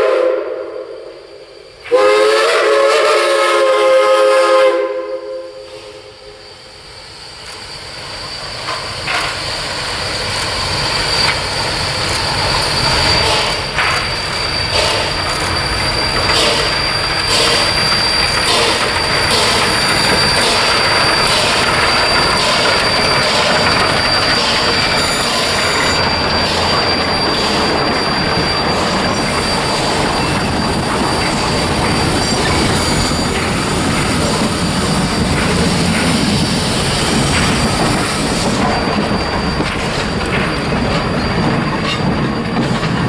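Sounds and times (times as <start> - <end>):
high wheel squeal: 5.3 - 43.0
train wheels clattering: 8.2 - 43.0.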